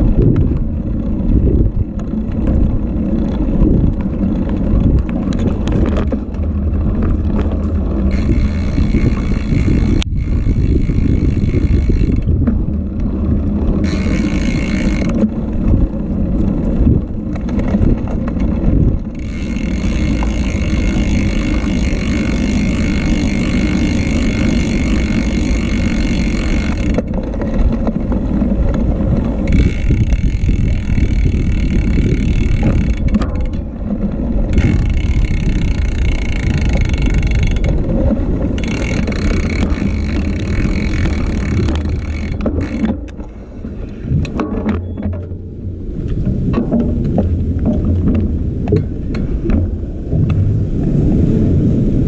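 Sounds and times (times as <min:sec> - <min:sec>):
bicycle tyres rolling on concrete: 0:00.0 - 0:52.0
wind buffeting microphone: 0:00.0 - 0:52.0.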